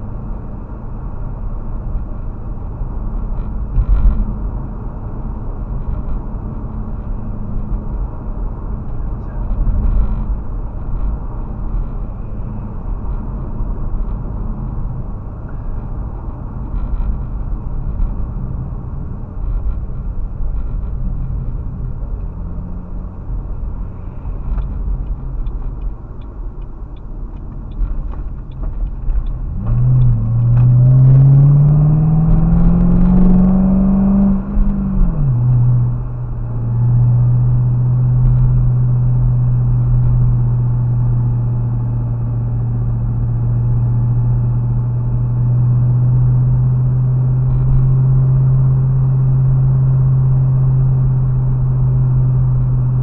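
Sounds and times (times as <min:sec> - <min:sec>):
car engine accelerating: 0:00.0 - 0:53.0
road rumble inside car: 0:00.0 - 0:53.0.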